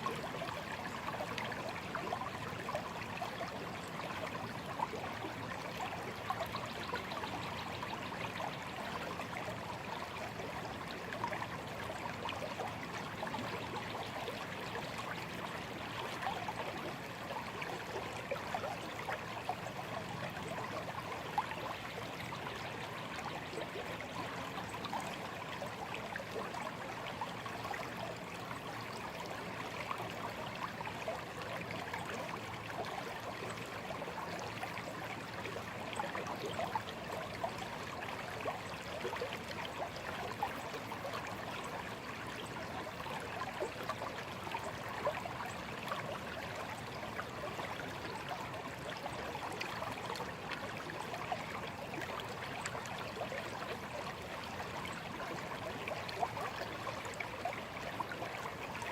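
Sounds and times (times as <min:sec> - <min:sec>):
stream babbling over stones: 0:00.0 - 0:58.9.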